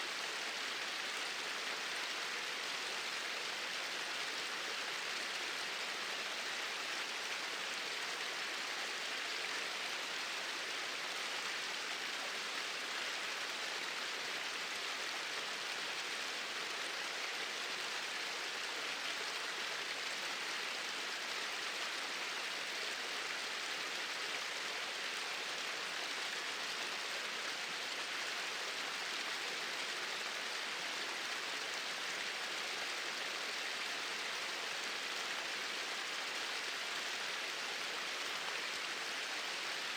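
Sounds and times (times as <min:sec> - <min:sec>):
small waterfalls rushing: 0:00.0 - 0:39.9.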